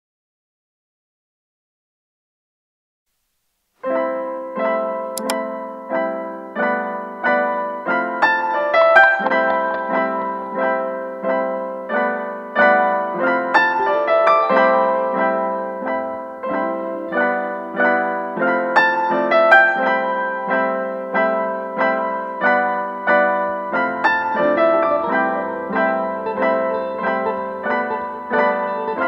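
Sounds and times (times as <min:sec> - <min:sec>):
gentle piano melody: 0:03.8 - 0:29.0.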